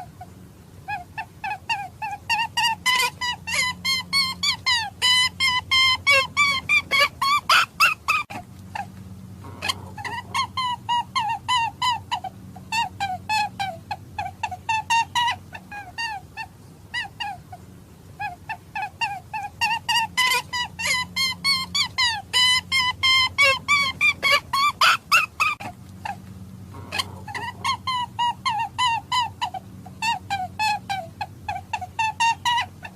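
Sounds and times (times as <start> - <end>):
steady low hum: 0.0 - 32.9
high squealing game calls: 0.9 - 16.2, 18.2 - 32.9.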